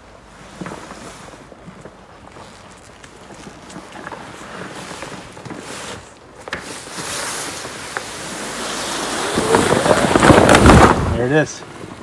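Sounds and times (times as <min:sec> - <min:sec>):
canvas sliding and rustling: 0:00.1 - 0:12.0
fabric crackling and crumpling: 0:00.4 - 0:11.2.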